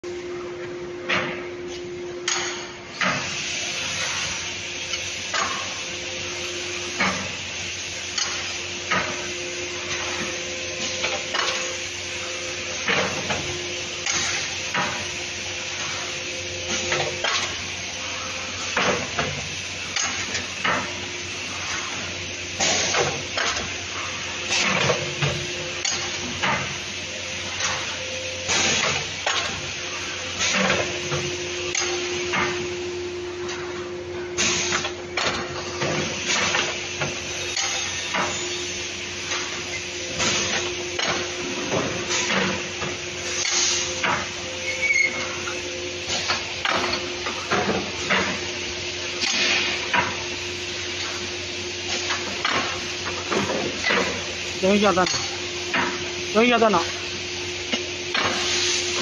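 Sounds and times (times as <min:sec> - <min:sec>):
machine hum and hiss: 0:00.0 - 0:59.0.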